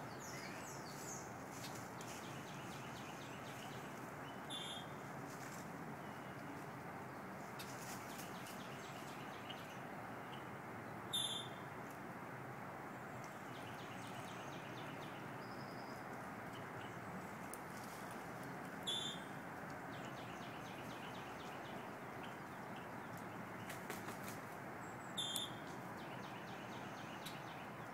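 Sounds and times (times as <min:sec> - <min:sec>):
birds chirping: 0:00.0 - 0:11.7, 0:12.9 - 0:27.9
outdoor background hum: 0:00.0 - 0:27.9.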